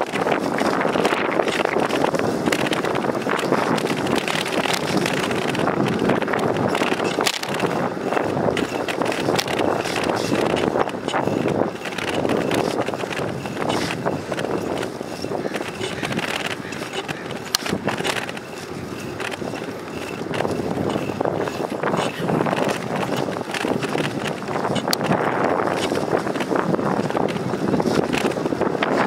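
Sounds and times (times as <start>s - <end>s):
bicycle tyres on concrete: 0.0s - 29.0s
scattered clicks: 0.0s - 29.0s
wind buffeting microphone: 0.0s - 29.0s.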